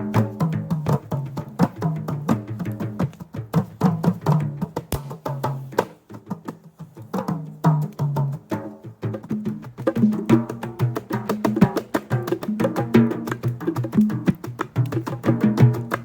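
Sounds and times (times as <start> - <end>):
hand drums in quick rhythm: 0.0 - 16.0.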